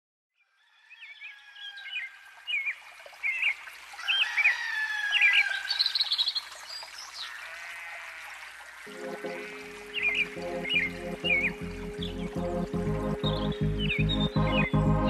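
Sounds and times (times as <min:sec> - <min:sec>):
birds singing: 0:00.9 - 0:08.1, 0:08.8 - 0:15.0.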